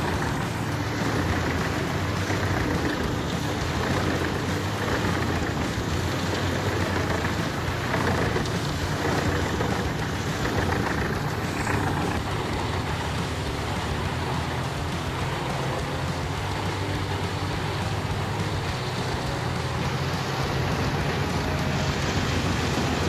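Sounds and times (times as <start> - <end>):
wood chipper running: 0.0 - 23.0.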